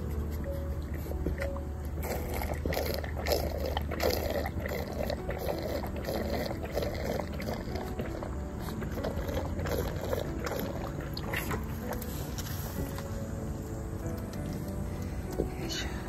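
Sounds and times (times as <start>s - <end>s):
goat slurping water: 0.0s - 13.2s.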